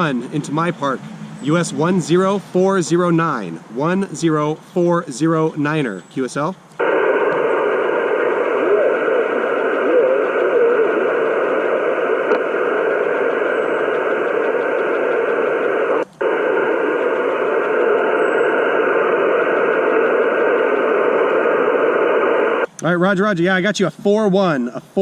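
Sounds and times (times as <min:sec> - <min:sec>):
radio static hiss: 0:00.0 - 0:23.6.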